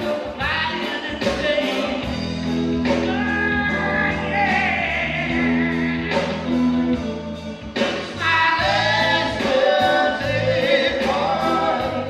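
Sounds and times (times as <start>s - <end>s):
person singing: 0.0s - 2.2s, 2.9s - 6.5s, 8.1s - 12.0s
reggae band playing: 0.0s - 12.0s.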